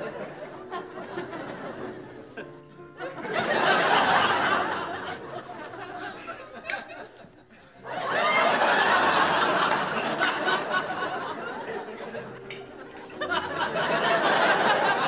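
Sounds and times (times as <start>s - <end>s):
studio audience laughing: 0.0s - 15.0s.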